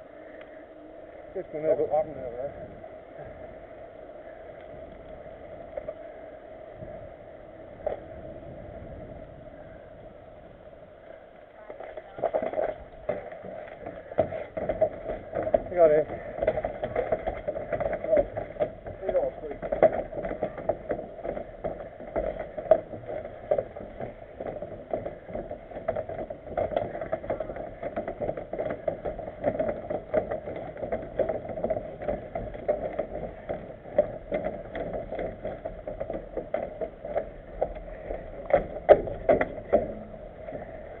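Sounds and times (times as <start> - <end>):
bike clicks and rattles on grating: 0.0 - 10.0, 10.7 - 41.0.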